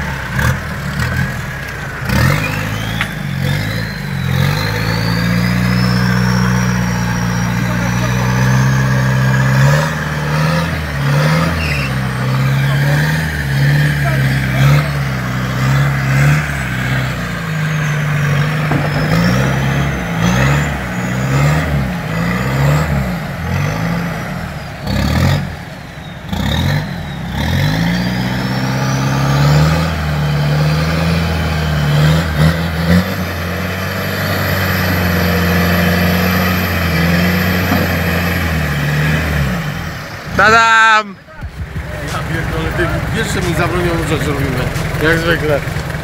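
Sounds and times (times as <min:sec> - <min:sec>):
engine revving under load: 0:00.0 - 0:46.0.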